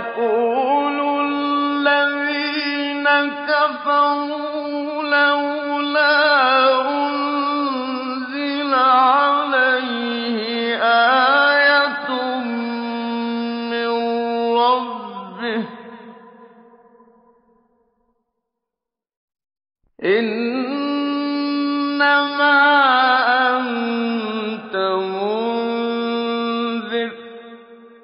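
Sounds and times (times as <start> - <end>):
man chanting melodically: 0.0 - 16.5, 20.0 - 27.6.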